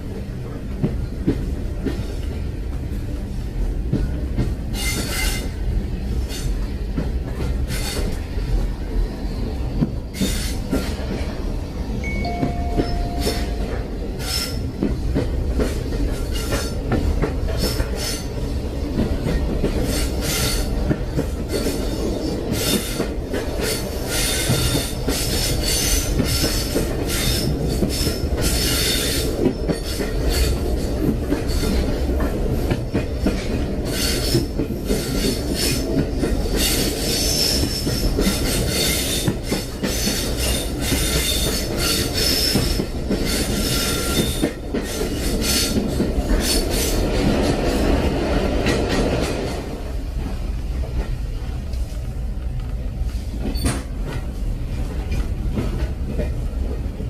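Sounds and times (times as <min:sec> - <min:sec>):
train clattering: 0:00.0 - 0:57.0
train rumbling: 0:00.0 - 0:57.0.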